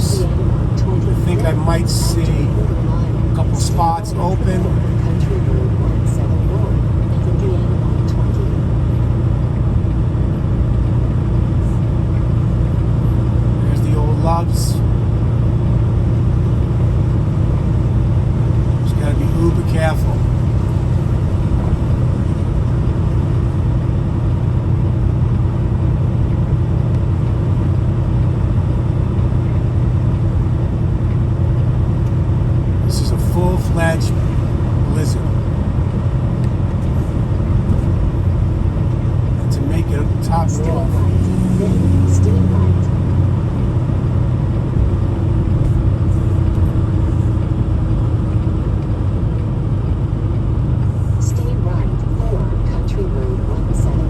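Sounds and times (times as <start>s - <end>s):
road noise: 0.0s - 54.0s
truck diesel engine running: 0.0s - 54.0s.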